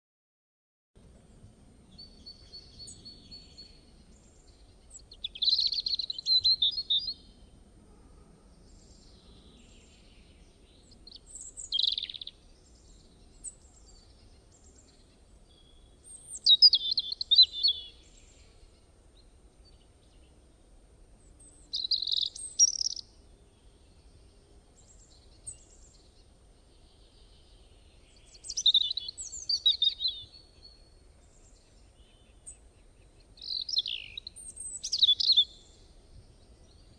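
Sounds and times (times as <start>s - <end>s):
bird chirping: 1.2s - 7.6s, 8.5s - 20.6s, 21.2s - 36.9s.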